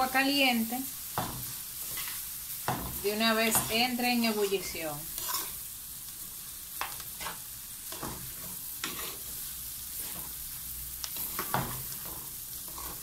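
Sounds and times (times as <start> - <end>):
rice sizzling in a pan: 0.0 - 13.0
spoon scraping a pan: 1.1 - 5.6, 6.8 - 13.0.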